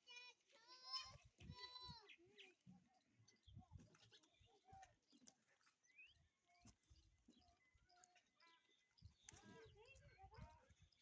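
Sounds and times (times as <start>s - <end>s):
faint bird chirps: 1.9s - 11.0s.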